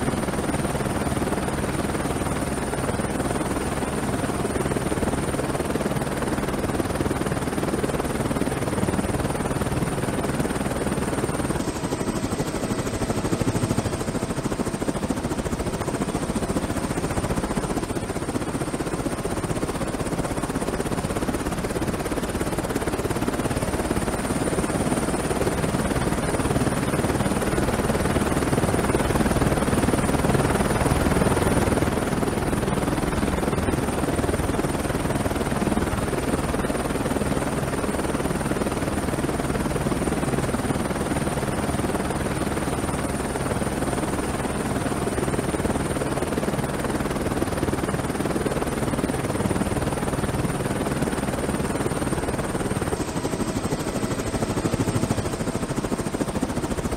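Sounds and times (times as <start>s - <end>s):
helicopter rotor: 0.0s - 56.9s.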